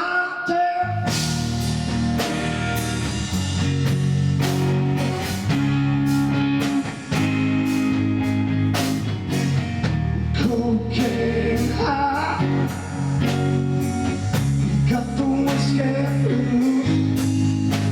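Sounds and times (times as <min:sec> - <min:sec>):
instrumental rock music: 0:01.0 - 0:17.9.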